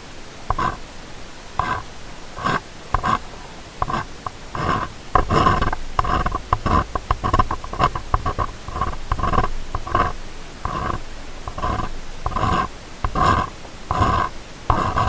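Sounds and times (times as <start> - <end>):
tool scratching at microphone: 0.5 - 0.8, 1.6 - 15.0.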